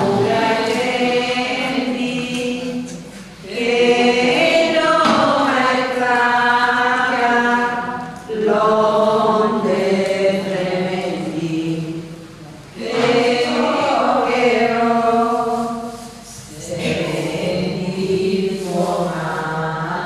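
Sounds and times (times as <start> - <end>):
voices singing a hymn in unison: 0.0 - 20.0.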